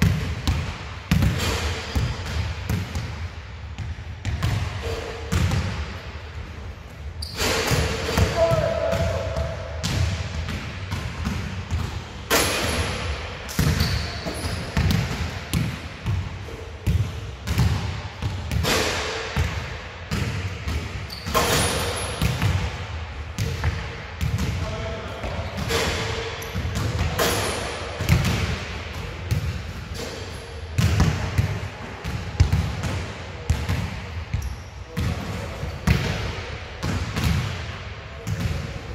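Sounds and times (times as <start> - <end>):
basketballs bouncing indoors: 0.0 - 38.9.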